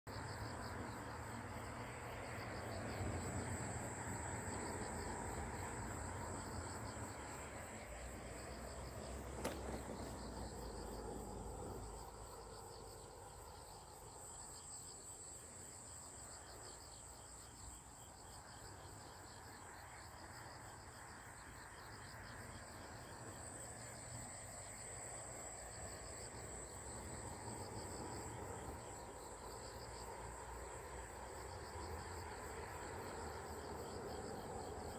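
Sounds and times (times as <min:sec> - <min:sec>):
insects chirping: 0:00.1 - 0:34.9.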